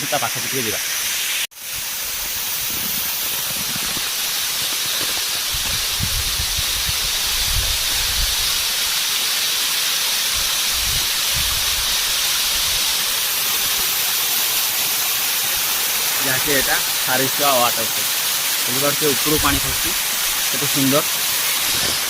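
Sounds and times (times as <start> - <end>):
small waterfall hissing: 0.0 - 22.0.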